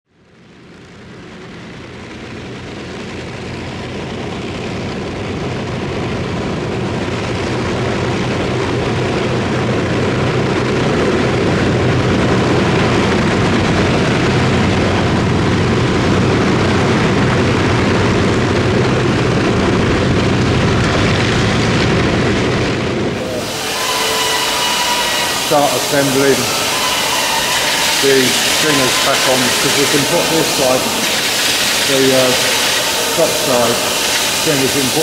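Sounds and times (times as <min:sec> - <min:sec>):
propeller engines droning: 0:00.6 - 0:35.0.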